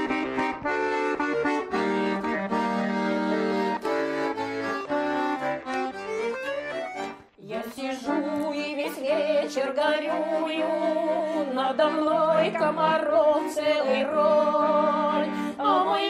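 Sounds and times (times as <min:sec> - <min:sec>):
instrumental folk music: 0:00.0 - 0:16.0.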